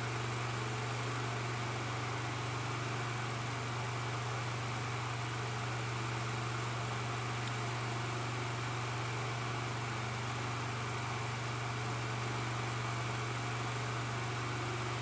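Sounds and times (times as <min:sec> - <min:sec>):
fan motor hum: 0:00.0 - 0:15.0.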